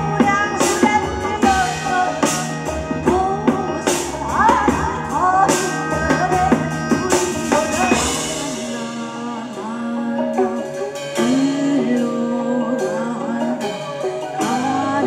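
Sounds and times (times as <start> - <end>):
drums: 0.0 - 15.0
guitar: 0.0 - 15.0
person singing: 0.0 - 15.0.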